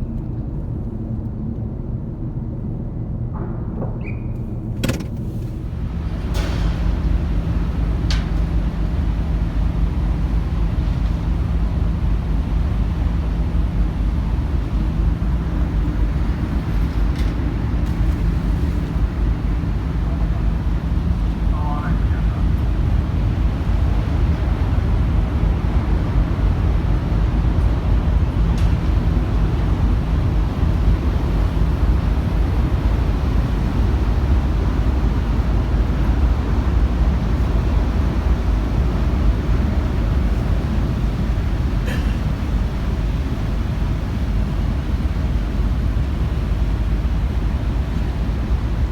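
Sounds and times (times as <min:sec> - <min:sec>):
ship engines droning: 0:04.4 - 0:48.9.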